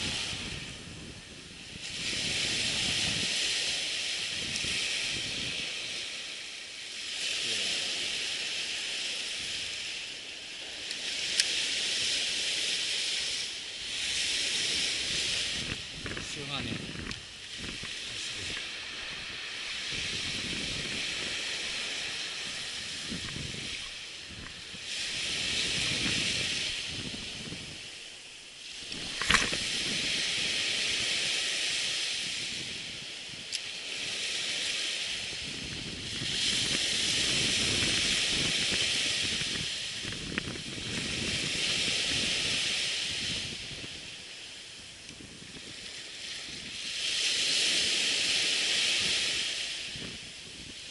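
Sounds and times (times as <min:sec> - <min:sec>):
surf washing onto beach: 0:00.0 - 0:50.9
wind rumbling on microphone: 0:00.0 - 0:50.9.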